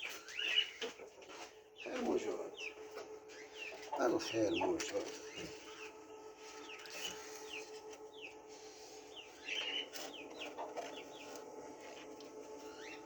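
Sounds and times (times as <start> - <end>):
hen clucking: 0.0 - 8.4, 9.1 - 13.0
chicks peeping: 0.0 - 13.0.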